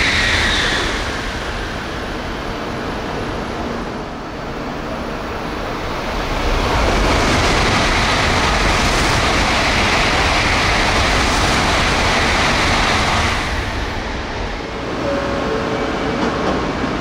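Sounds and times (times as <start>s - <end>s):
high-speed train rushing past: 0.0s - 17.0s.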